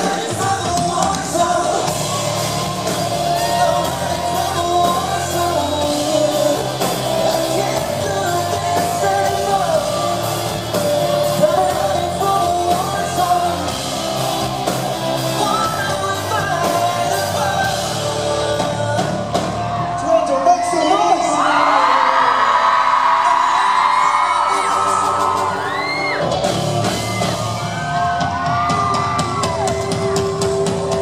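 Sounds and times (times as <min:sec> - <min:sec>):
drums and bass: 0:00.0 - 0:21.4, 0:23.4 - 0:31.0
male lead vocals: 0:00.0 - 0:26.9.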